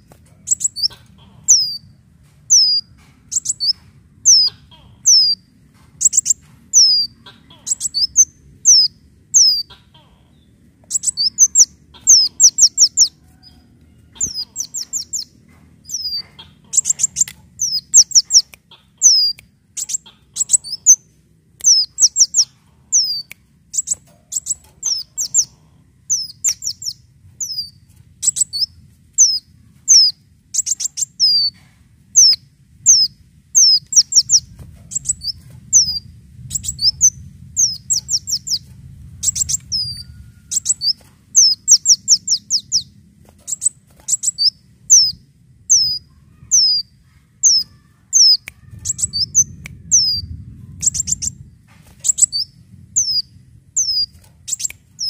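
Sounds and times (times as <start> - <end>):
sunbird high thin chirps: 0.4 - 1.9, 2.5 - 9.7, 10.8 - 13.2, 14.2 - 15.3, 15.9 - 55.0.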